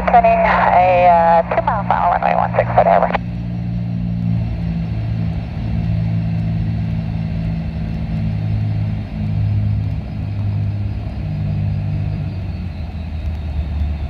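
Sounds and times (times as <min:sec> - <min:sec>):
twin piston engines droning: 0:00.0 - 0:14.0.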